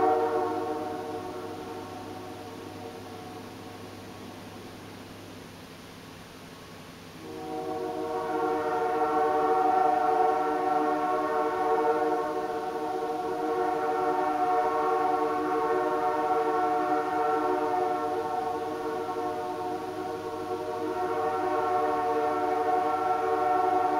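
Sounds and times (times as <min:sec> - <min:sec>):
air horn chord: 0:00.0 - 0:04.6, 0:07.2 - 0:23.9.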